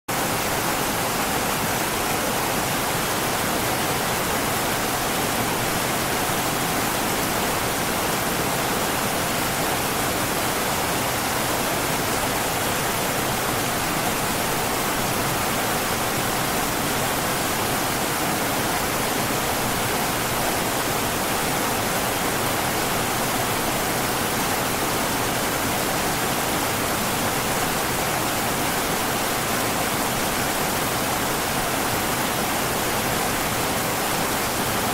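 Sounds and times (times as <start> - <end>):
river water rushing over rocks: 0.1 - 34.9.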